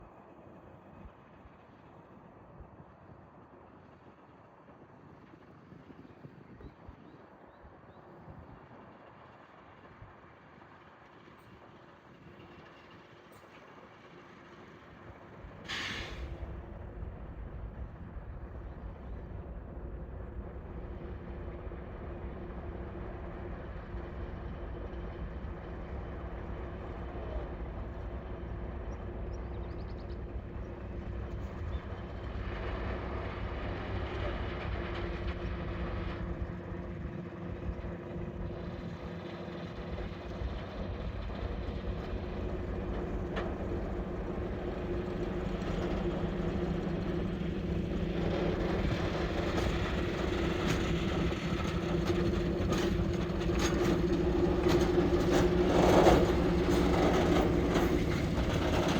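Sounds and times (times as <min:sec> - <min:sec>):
diesel locomotive engine running: 0:07.2 - 0:58.9.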